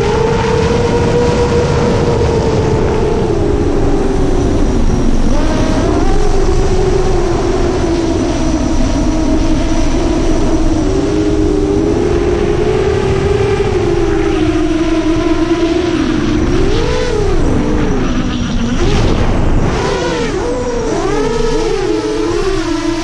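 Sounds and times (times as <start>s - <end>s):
drone motors whining: 0.0s - 23.0s
steady rushing noise: 0.0s - 23.0s.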